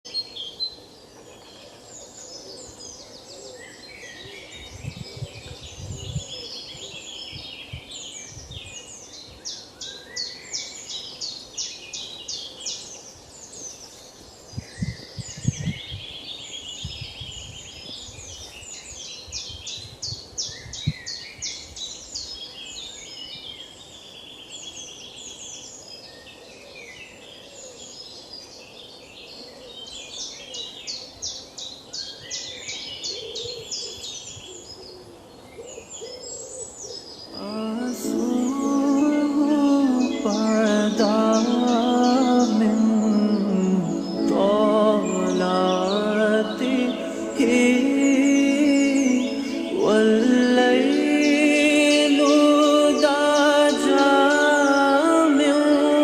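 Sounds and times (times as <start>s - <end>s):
birds chirping and trilling: 0.1s - 56.0s.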